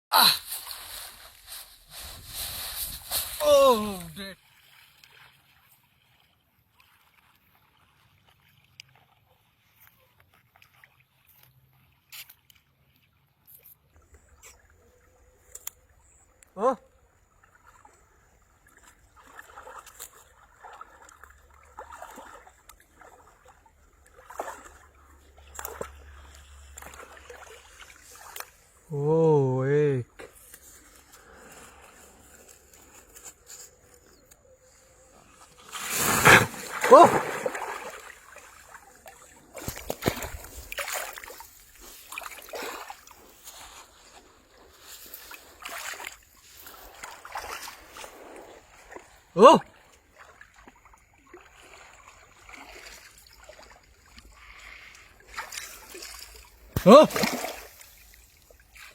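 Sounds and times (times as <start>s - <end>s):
water splashing and sloshing: 0.3s - 28.9s, 30.0s - 58.9s.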